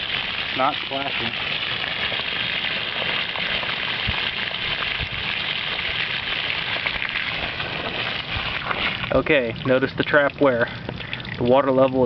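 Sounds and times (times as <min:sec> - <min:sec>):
water pouring from a hose: 0:00.0 - 0:12.0
water splashing onto ground: 0:00.0 - 0:12.0.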